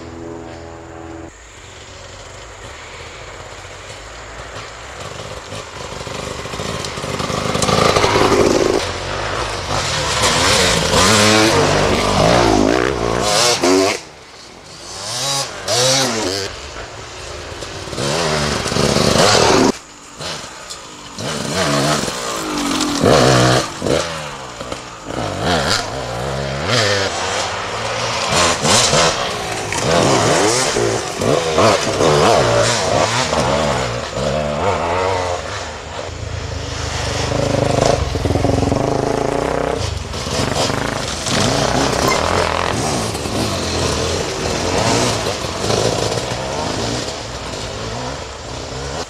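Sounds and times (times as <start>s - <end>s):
dirt bikes revving past: 0.0s - 49.0s.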